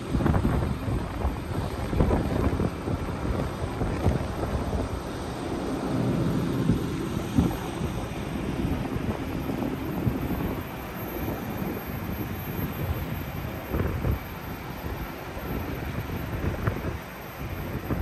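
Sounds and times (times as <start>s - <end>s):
city street traffic rumble: 0.0s - 18.0s
wind buffeting microphone: 0.0s - 18.0s.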